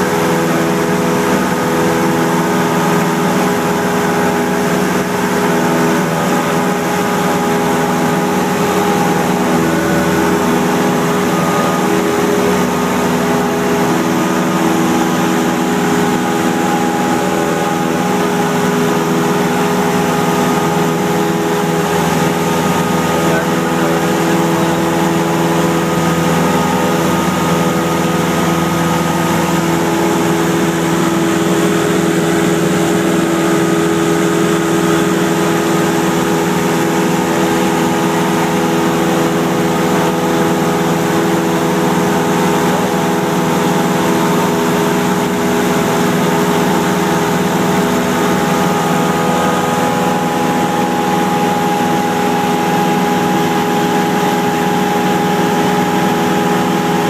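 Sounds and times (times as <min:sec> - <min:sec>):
propeller engine droning: 0:00.0 - 0:57.0.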